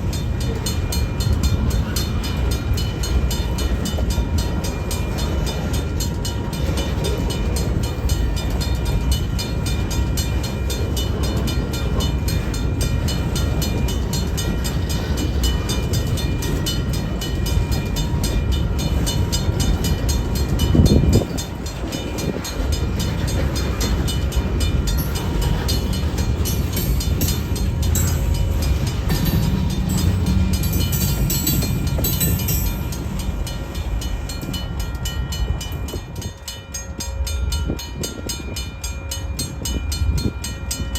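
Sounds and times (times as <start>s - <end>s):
freight train wheels rumbling: 0.0s - 40.9s
wheels clicking on rail: 0.0s - 40.9s.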